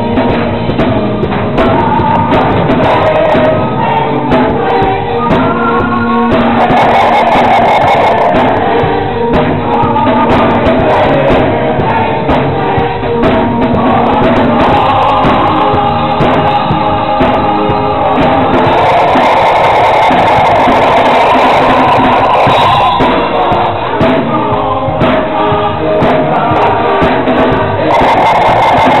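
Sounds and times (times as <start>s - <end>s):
drum kit: 0.0s - 29.0s
gospel choir singing: 0.0s - 29.0s
keyboards: 0.0s - 29.0s.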